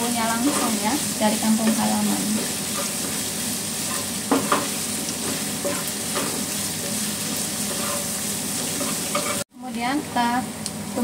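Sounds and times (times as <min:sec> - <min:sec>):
onions sizzling in oil: 0:00.0 - 0:11.0
wooden spatula scraping a pan: 0:00.2 - 0:09.5.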